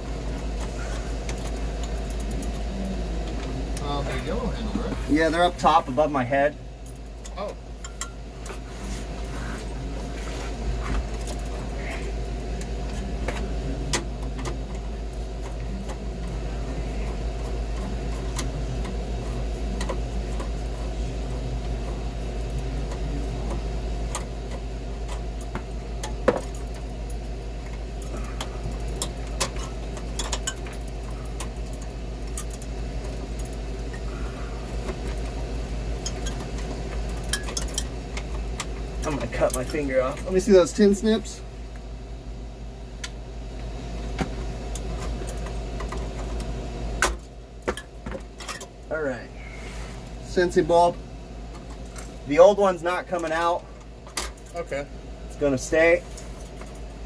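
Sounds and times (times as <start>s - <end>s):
low machinery hum: 0.0s - 57.0s.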